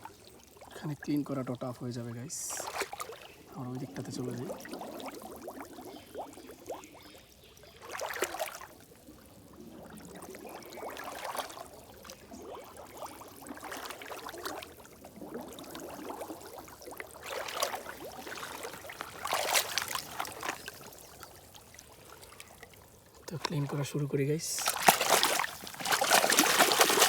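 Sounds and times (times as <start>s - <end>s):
water splashing and pouring: 0.0s - 6.8s, 7.8s - 27.0s.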